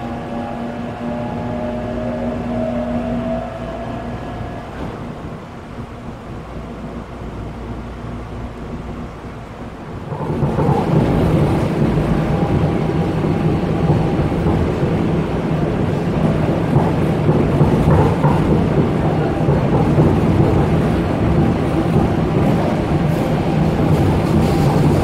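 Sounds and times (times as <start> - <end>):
train wheels and motors rumbling: 0.0 - 25.0.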